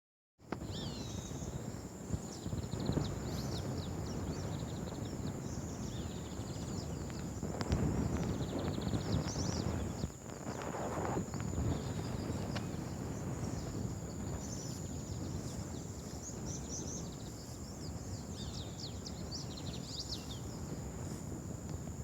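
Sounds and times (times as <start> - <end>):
small birds chirping: 0.6 - 22.0.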